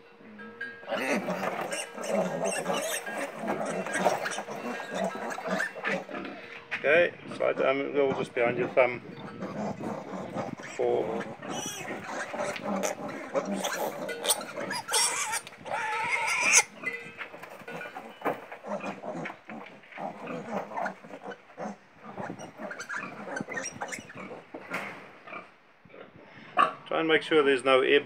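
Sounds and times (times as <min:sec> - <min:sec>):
piglet squealing: 0:00.9 - 0:06.4, 0:07.2 - 0:24.5.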